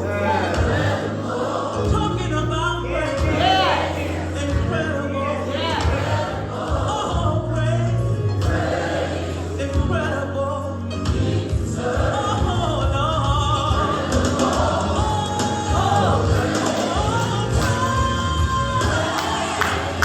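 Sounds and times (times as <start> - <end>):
choir singing gospel: 0.0 - 20.0
low instrumental accompaniment: 0.0 - 20.0.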